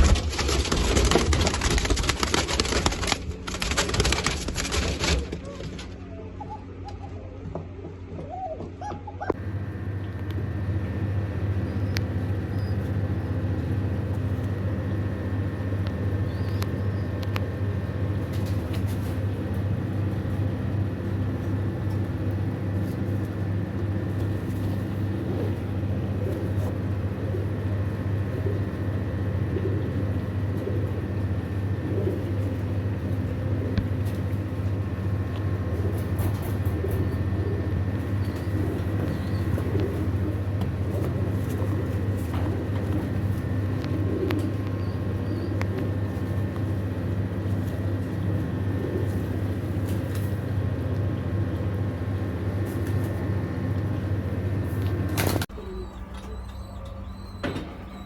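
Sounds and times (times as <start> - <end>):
pigeons cooing: 0.0 - 58.0
steady low hum: 0.0 - 58.0.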